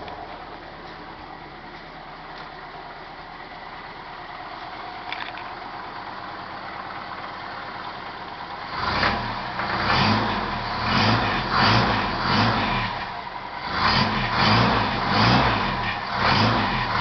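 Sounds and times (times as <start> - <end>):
jeep engine idling and revving: 0.0 - 17.0.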